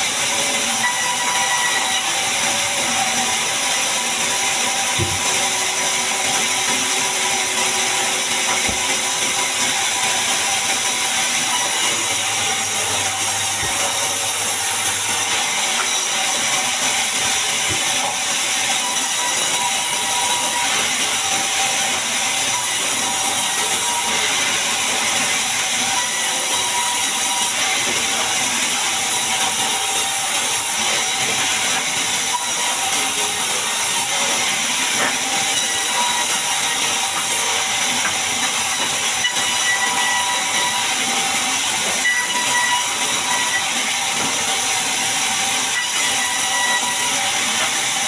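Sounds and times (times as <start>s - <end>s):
bandsaw cutting log: 0.0s - 48.0s.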